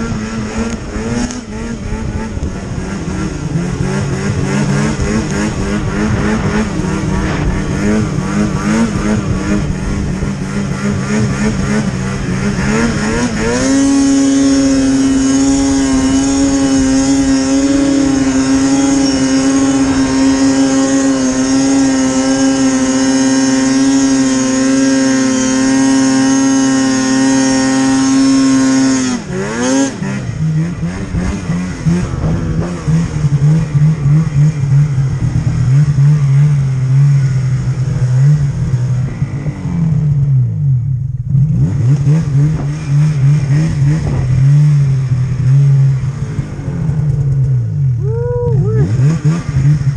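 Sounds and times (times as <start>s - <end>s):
snowmobile engine revving: 0.0s - 49.9s.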